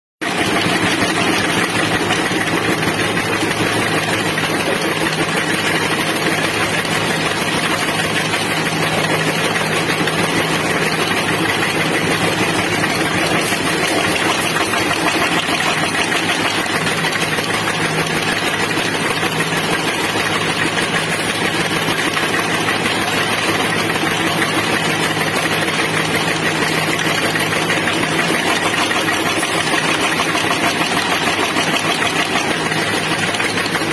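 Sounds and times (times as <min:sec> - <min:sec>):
machine droning steadily: 0:00.3 - 0:33.9.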